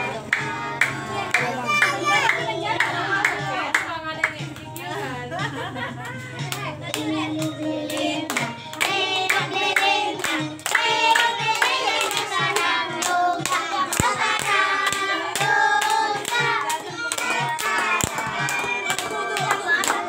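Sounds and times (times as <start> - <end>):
group singing birthday song: 0.0 - 20.0
people clapping in time: 0.2 - 4.9, 6.0 - 20.0.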